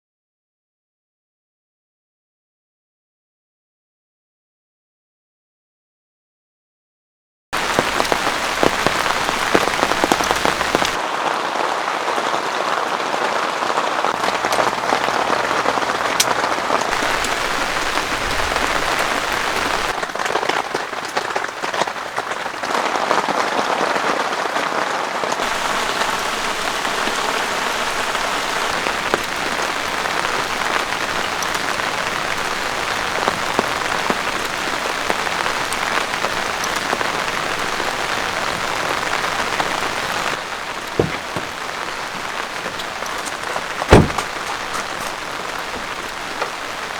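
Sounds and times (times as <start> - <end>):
raindrops ticking: 7.6 - 46.9
steady rain falling: 7.6 - 46.9.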